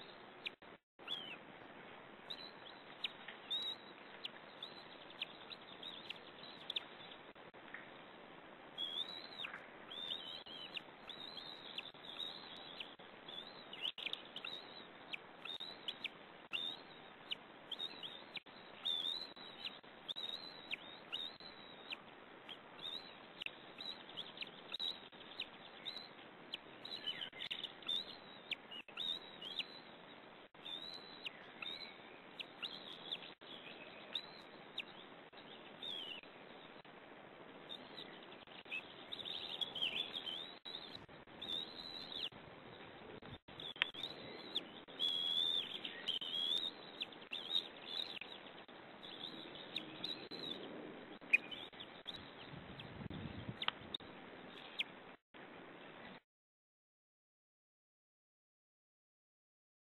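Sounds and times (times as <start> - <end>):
birds chirping: 0.0 - 1.4, 2.2 - 36.9, 37.5 - 55.0.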